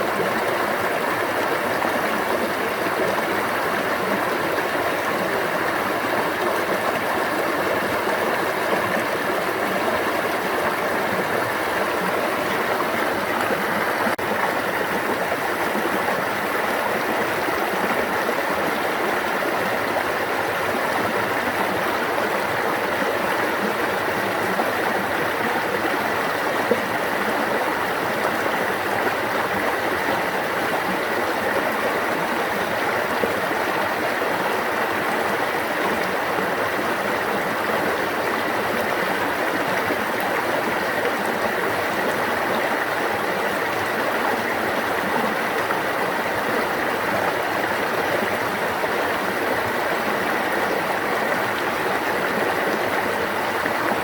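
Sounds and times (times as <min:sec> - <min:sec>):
stream water running over rocks: 0:00.0 - 0:54.0.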